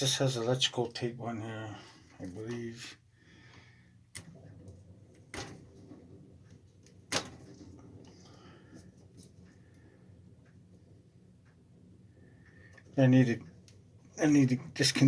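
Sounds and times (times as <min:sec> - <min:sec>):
faint rustling: 0:00.0 - 0:15.0
low steady hum: 0:00.0 - 0:15.0.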